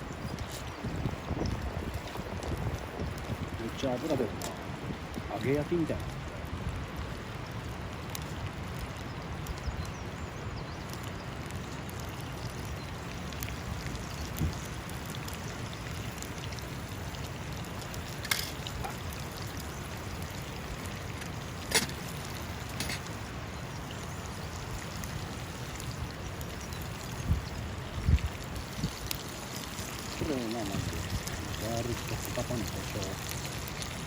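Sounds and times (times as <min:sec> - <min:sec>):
river water running: 0:00.0 - 0:34.0.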